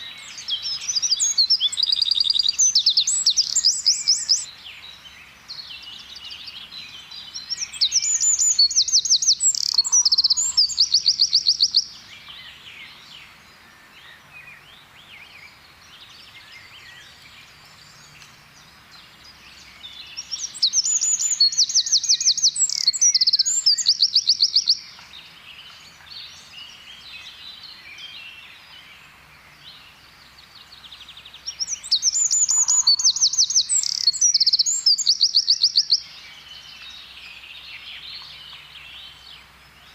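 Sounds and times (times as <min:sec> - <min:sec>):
faint birdsong: 0:00.0 - 0:39.9
wren song trills: 0:00.0 - 0:39.9.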